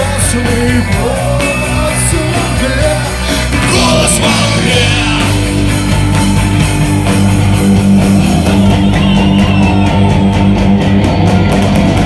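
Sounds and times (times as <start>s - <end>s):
bass guitar: 0.0s - 12.0s
drum beat: 0.0s - 12.0s
electric guitars: 0.0s - 12.0s.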